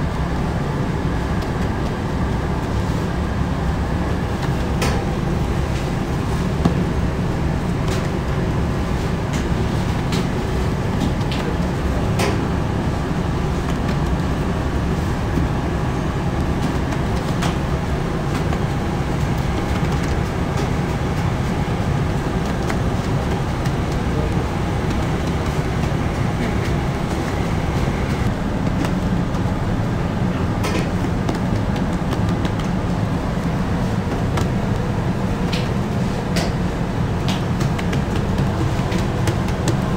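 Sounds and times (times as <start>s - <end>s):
machinery rumbling: 0.0s - 39.9s.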